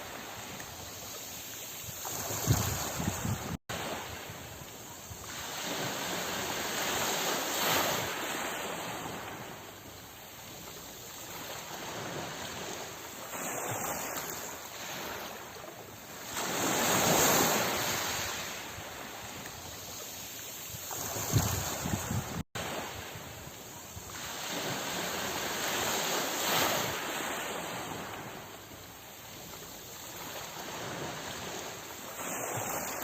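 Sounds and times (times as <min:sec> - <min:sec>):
sea waves breaking: 0:00.0 - 0:33.0.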